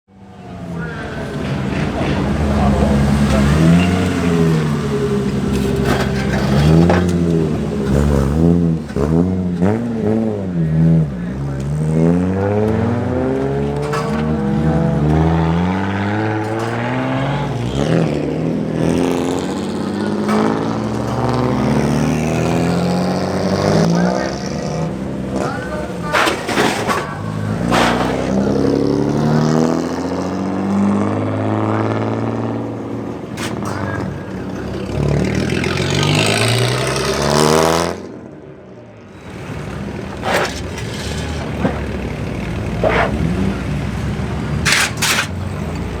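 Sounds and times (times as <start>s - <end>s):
car engines revving: 0.1s - 46.0s.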